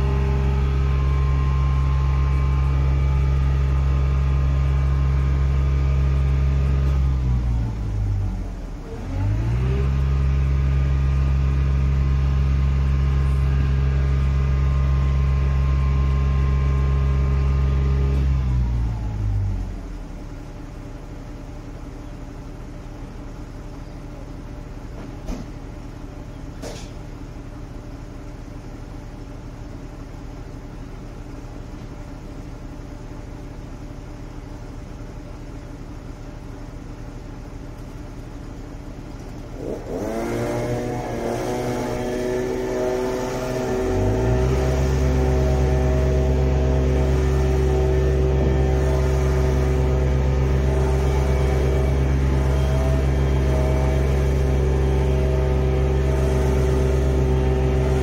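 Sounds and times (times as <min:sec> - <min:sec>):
boom lift engine running: 0:00.0 - 0:58.0.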